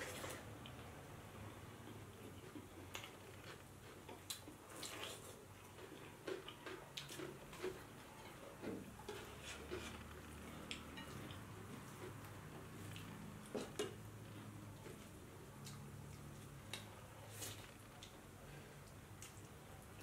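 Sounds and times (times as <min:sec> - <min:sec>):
food squishing by hand: 0:00.0 - 0:20.0.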